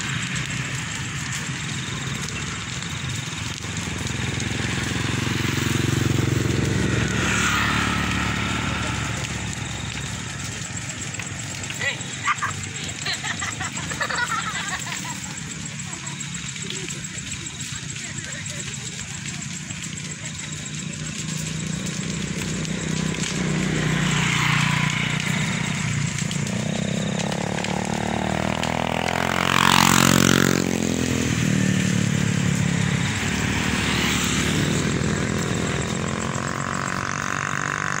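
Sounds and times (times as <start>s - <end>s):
motorcycle engines passing: 0.0s - 38.0s.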